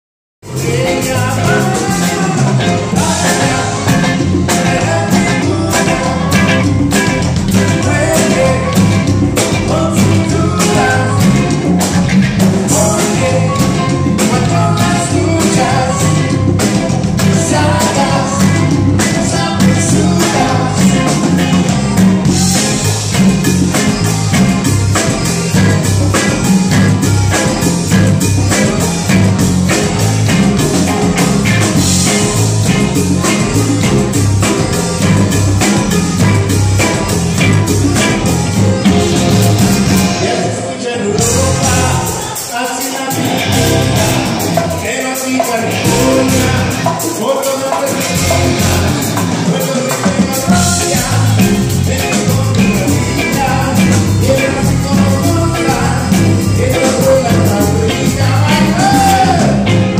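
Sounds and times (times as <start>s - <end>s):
rock band playing loudly: 0.4s - 59.9s.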